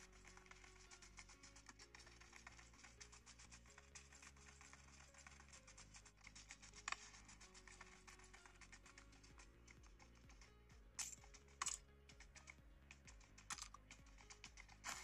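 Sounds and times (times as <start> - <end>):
faint music: 0.0 - 15.0
fingertips tapping touchscreen: 0.0 - 15.0.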